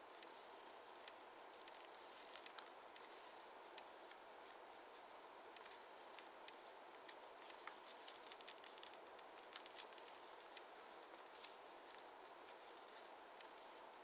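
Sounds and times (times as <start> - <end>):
low steady hiss: 0.0 - 14.0
paper crinkling and clicking: 0.9 - 14.0.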